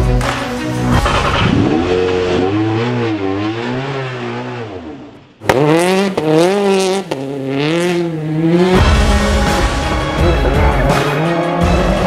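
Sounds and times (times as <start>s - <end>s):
rally car engine revving: 0.2s - 12.0s.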